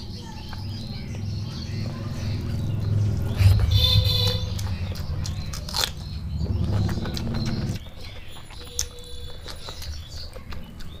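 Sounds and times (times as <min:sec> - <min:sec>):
close chewing of food: 0:00.0 - 0:11.0.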